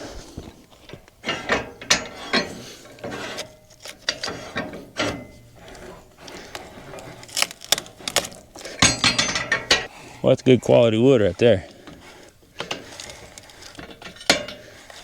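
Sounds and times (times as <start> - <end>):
metallic clicks and clanks: 0.8 - 9.9, 11.6 - 15.0.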